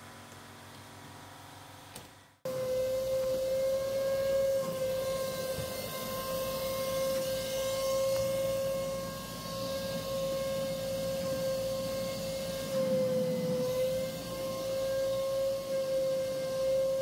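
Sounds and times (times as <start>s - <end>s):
steady machine whine: 2.5s - 17.0s.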